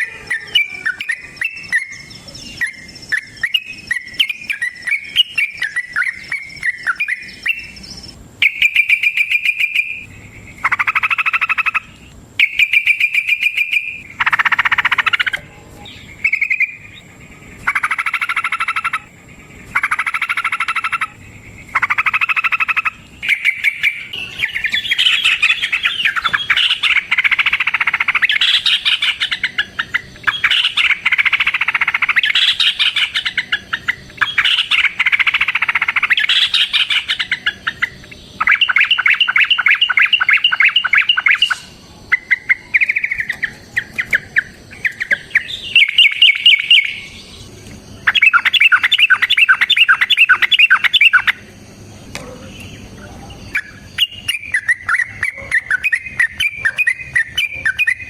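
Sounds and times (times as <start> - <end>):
bird chattering trills: 0.0 - 58.0.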